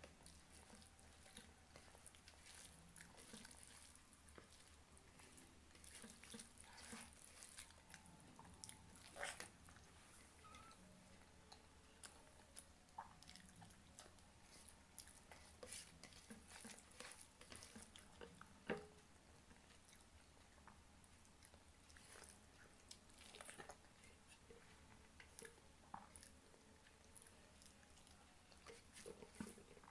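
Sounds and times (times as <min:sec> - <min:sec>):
faint wet chewing: 0:00.0 - 0:29.9.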